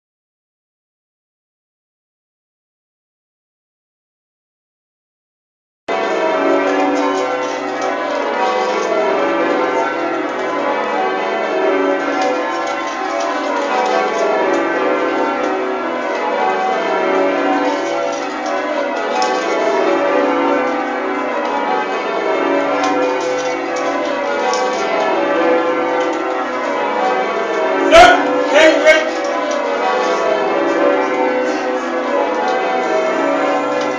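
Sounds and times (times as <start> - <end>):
church bells change ringing: 5.9 - 33.9.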